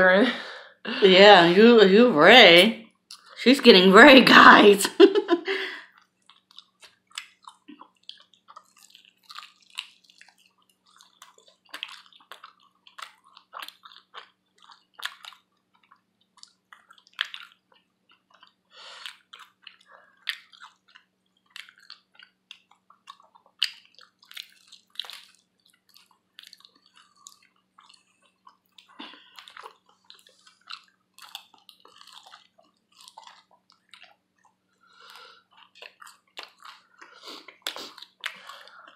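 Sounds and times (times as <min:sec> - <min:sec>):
person chewing wetly: 0:02.8 - 0:03.4, 0:05.8 - 0:38.9.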